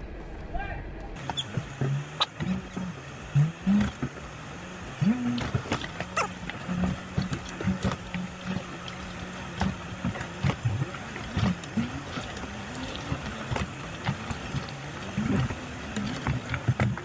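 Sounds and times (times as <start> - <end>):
engine running at low revs: 0.0 - 17.0
tyres splashing through puddles: 1.2 - 17.0.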